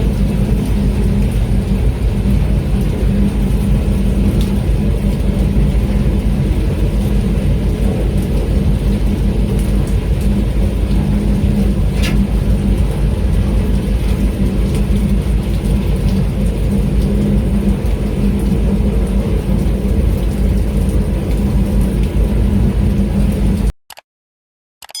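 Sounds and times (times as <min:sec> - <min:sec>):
boat engine droning: 0:00.0 - 0:23.7.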